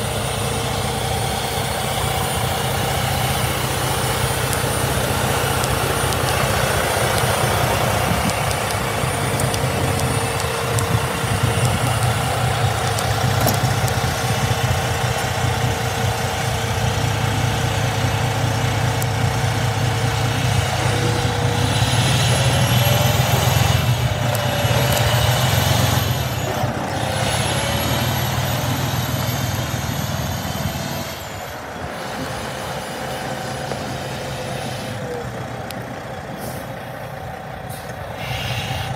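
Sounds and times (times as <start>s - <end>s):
high whine: 0.0s - 35.4s
truck diesel engine idling and revving: 0.0s - 38.9s.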